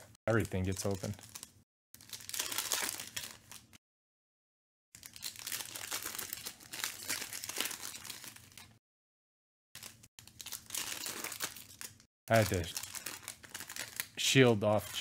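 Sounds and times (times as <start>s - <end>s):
foil wrappers crinkling and tearing: 0.4s - 3.8s, 5.0s - 8.7s, 9.8s - 15.0s.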